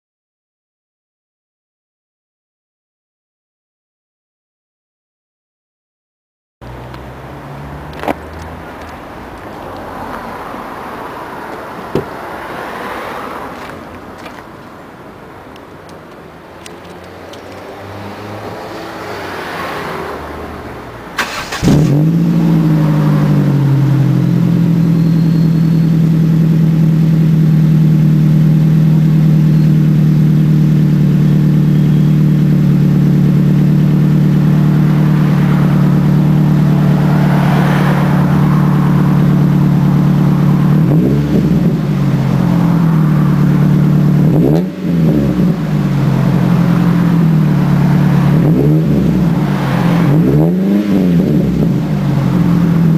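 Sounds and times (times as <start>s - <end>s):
car engine droning: 6.6s - 52.9s.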